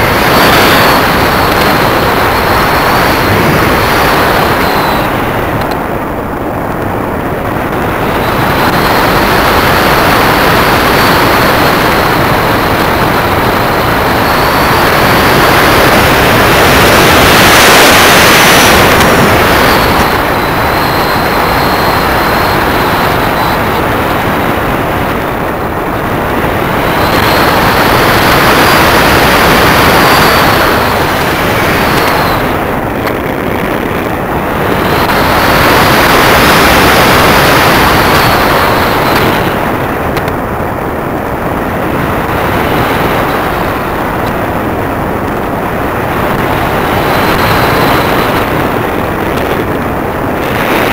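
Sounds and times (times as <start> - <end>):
electric motor and propeller whining: 0.0 - 50.9
wind rushing over microphone: 0.0 - 50.9.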